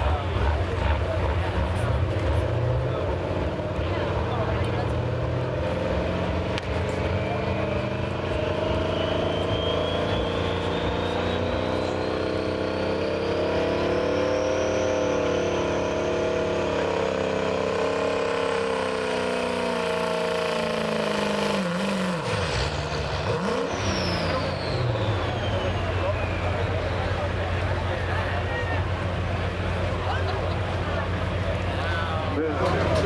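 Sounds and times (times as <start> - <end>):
diesel engine at high revs: 0.0 - 33.0
turbocharger whine: 0.0 - 33.0.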